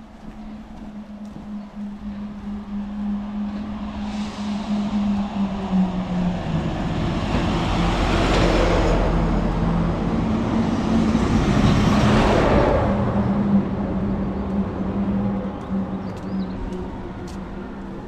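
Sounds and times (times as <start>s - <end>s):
cars passing by: 0.0s - 18.0s.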